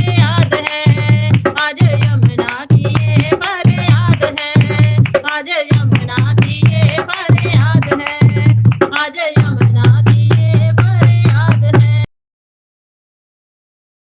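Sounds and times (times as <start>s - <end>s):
person singing devotional song: 0.0s - 12.1s.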